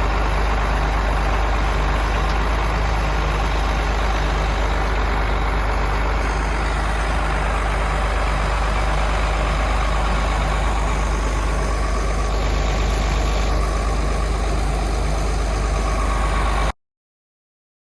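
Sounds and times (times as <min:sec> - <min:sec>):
truck diesel engine drone: 0:00.0 - 0:16.8.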